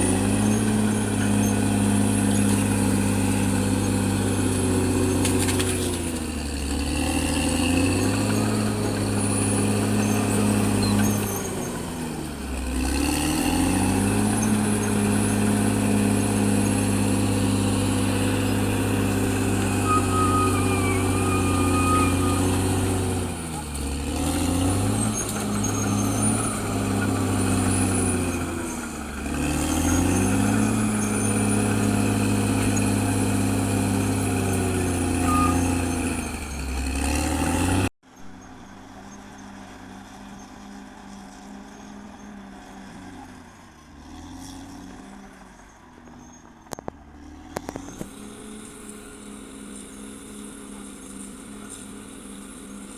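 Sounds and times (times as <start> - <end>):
bulldozer diesel engine running hard: 0.0 - 42.8, 47.1 - 52.9.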